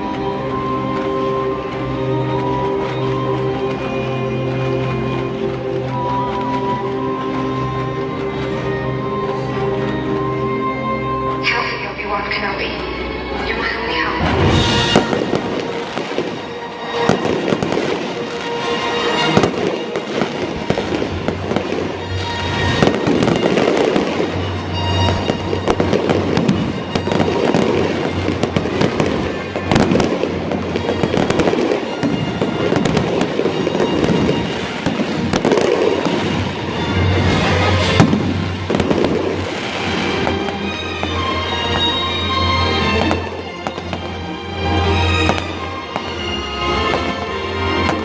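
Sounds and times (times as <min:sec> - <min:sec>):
fireworks bangs and crackling: 0:00.0 - 0:12.7, 0:13.4 - 0:48.0
music playing: 0:00.0 - 0:48.0.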